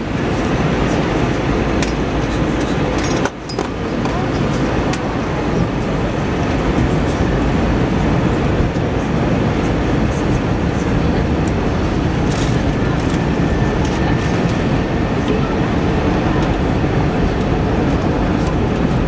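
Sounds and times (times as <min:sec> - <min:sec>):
airliner cabin engine rush: 0:00.0 - 0:19.0.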